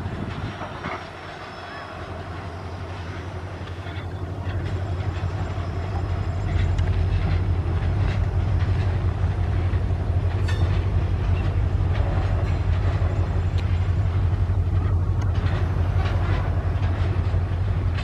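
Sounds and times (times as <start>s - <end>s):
diesel locomotive engine humming: 0.0s - 18.0s
wagon wheels clicking on rail joints: 0.0s - 18.0s.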